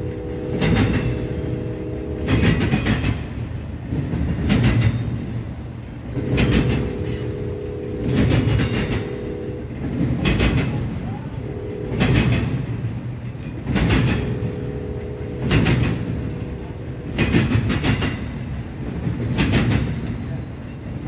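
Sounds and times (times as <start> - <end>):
freight train rumbling past: 0.0 - 21.0
train wheel clatter: 0.0 - 21.0.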